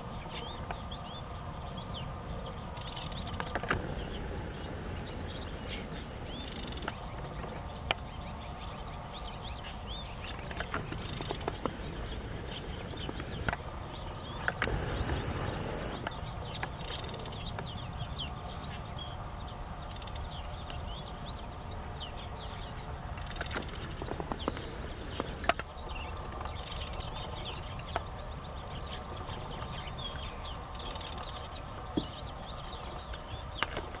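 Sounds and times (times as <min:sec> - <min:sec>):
birds chirping quickly: 0:00.0 - 0:34.0
steady high whine: 0:00.0 - 0:34.0.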